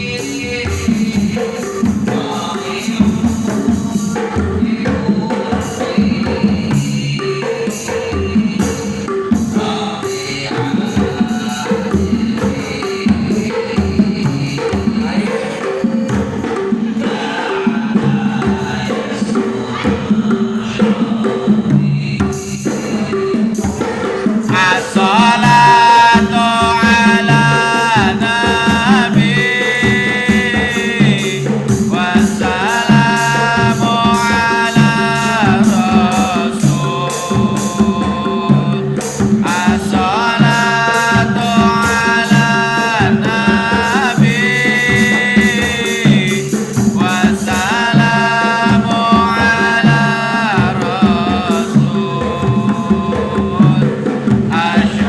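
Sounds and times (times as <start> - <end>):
hand drum rhythm: 0.0 - 55.0
person singing long notes: 0.0 - 55.0.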